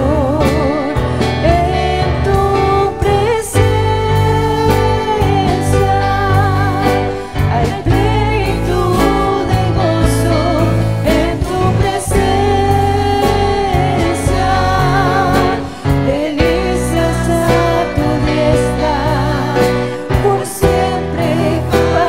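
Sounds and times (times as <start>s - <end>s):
acoustic guitar: 0.0s - 22.0s
electronic keyboard: 0.0s - 22.0s
women singing a hymn: 0.0s - 22.0s.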